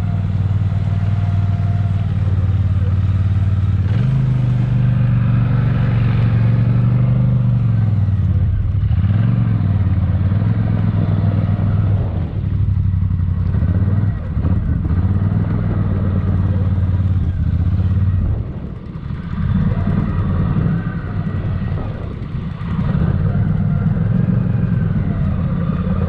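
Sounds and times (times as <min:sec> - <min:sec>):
atv engine running hard: 0:00.0 - 0:26.0.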